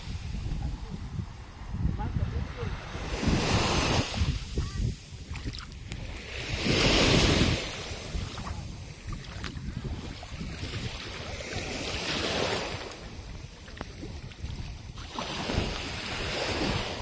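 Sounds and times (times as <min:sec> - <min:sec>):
small waves washing: 0:00.0 - 0:17.0
wind buffeting microphone: 0:00.0 - 0:17.0.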